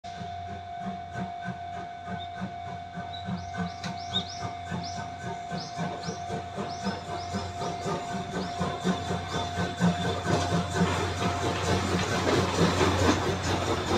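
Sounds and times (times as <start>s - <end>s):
steam locomotive exhaust chuffs: 0.0s - 13.9s.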